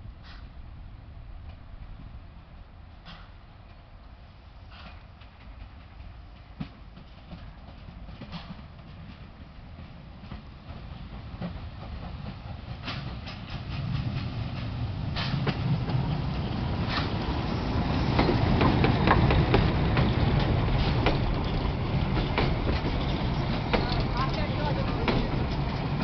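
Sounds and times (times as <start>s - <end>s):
train rumbling past: 0.0s - 26.0s
wheels clicking over rail joints: 4.7s - 26.0s.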